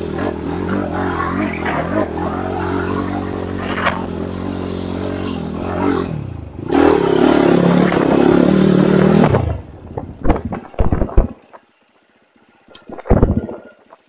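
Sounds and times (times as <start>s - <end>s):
dirt bike engine running: 0.0s - 11.8s.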